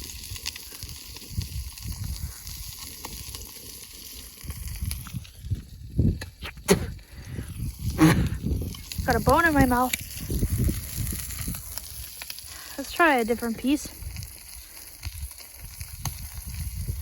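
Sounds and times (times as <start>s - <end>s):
fish frying in hot oil: 0.0s - 6.4s, 7.0s - 17.0s.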